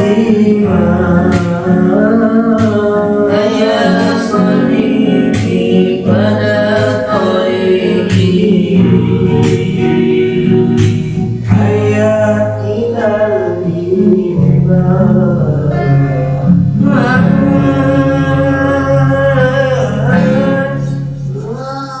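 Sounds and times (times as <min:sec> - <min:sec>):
devotional song with melismatic vocals: 0:00.0 - 0:22.0.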